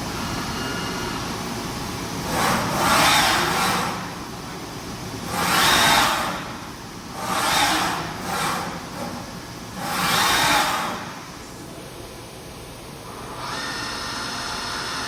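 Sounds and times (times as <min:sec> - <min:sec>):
machining centre whirring: 0:00.0 - 0:15.0.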